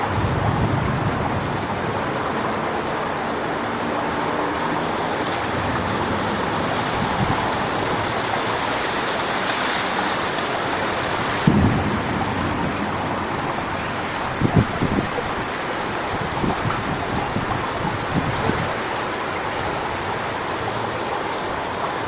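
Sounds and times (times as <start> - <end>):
wind buffeting microphone: 0.0 - 22.0
wind through palm trees: 0.0 - 22.0.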